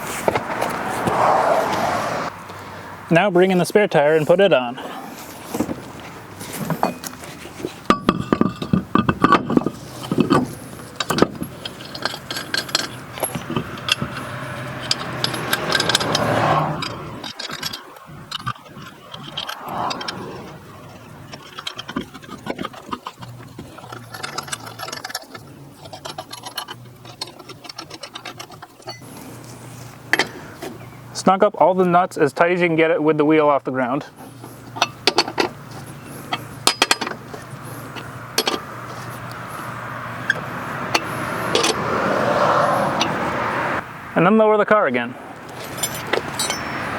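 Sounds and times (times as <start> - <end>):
wheel knocking and scraping: 0.0 - 46.9
lug nuts clinking: 3.2 - 43.8, 45.4 - 46.9.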